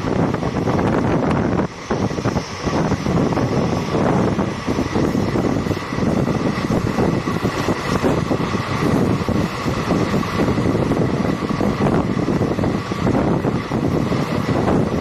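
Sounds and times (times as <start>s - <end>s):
passenger train running: 0.0s - 15.0s
wind buffeting microphone: 0.0s - 15.0s.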